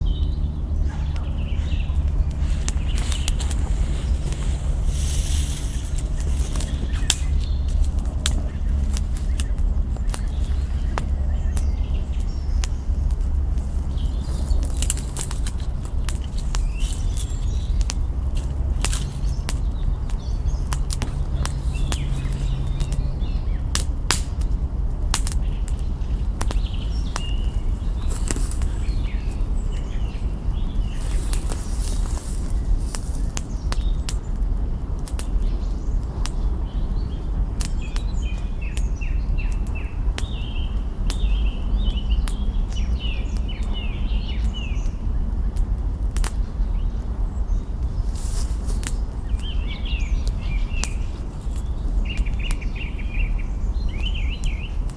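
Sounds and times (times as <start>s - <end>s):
small birds chirping: 0.0s - 54.9s
wood fire crackling: 0.0s - 54.9s.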